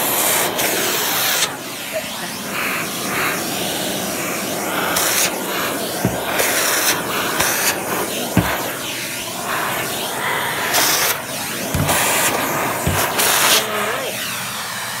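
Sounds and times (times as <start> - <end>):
vacuum nozzle sucking on carpet: 0.0 - 15.0.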